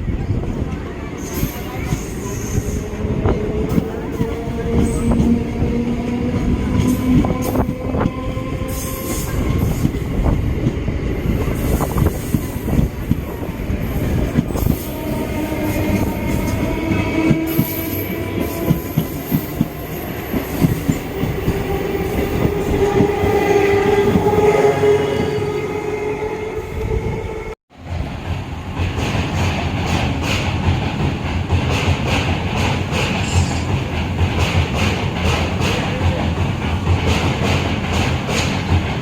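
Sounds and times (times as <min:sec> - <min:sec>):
train wheels clattering over rails: 0:00.5 - 0:24.5, 0:27.8 - 0:39.0.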